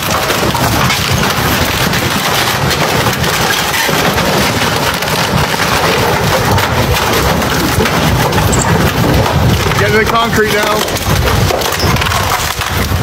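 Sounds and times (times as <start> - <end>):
wood crackling and splintering: 0.0 - 13.0.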